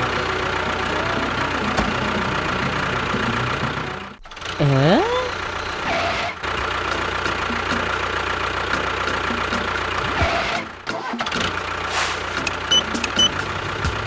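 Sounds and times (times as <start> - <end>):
small engine running with whine: 0.0 - 14.0.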